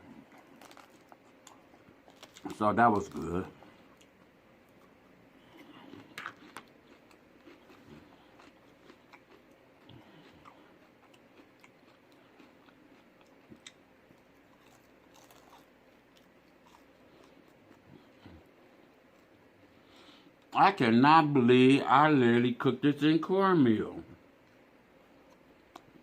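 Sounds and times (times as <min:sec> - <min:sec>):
person chewing food: 0:00.0 - 0:20.5, 0:25.1 - 0:26.0.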